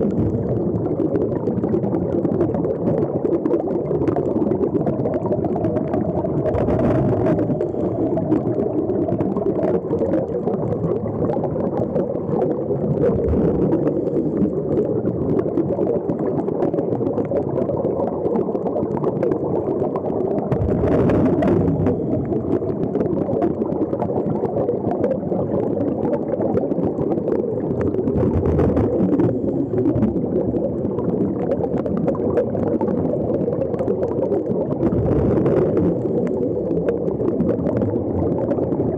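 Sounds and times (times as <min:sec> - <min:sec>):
faint crackles: 0:00.0 - 0:38.9
underwater air bubbling: 0:00.0 - 0:38.9.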